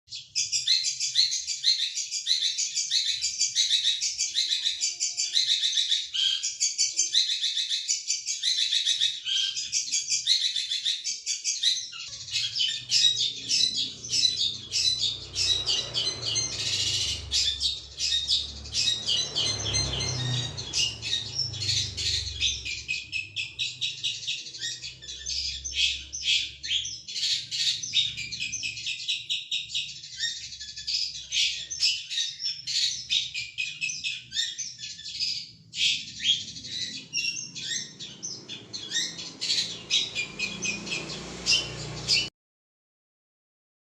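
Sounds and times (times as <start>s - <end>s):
small bird chirping and trilling: 0.0s - 42.3s.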